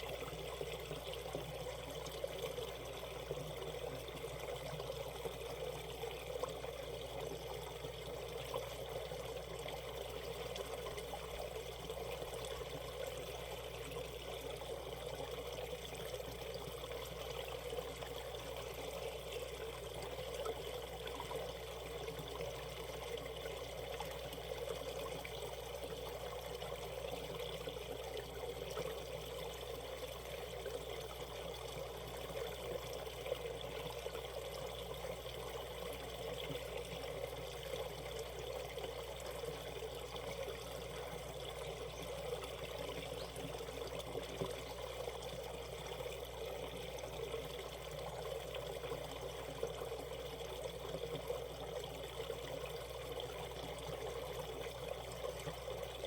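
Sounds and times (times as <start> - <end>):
stream water flowing over stones: 0.0 - 56.0.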